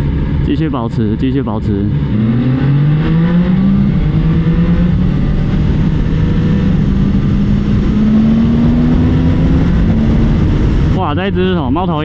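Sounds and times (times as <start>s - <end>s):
motorcycle engine accelerating: 0.0s - 11.8s
low wind rumble: 0.0s - 12.0s.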